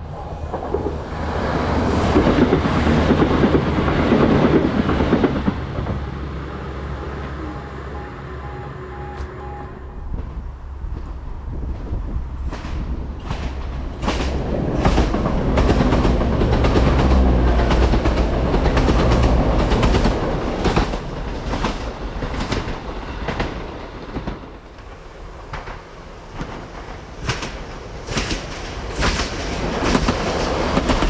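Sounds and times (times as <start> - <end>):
train engine and wheel rumble: 0.0 - 31.0.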